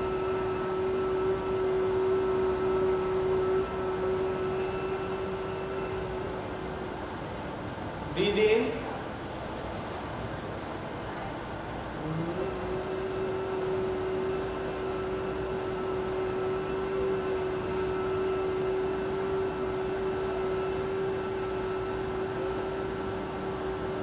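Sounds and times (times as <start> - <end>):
steady single-pitched hum: 0.0 - 24.0.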